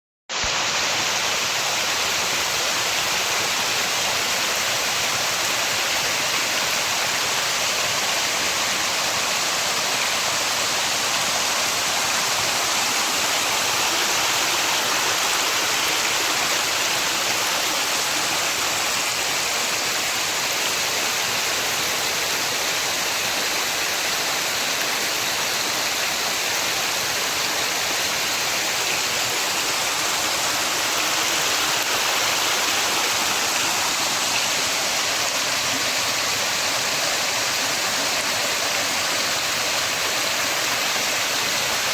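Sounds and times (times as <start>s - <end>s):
stream rushing over rocks: 0.3s - 41.9s.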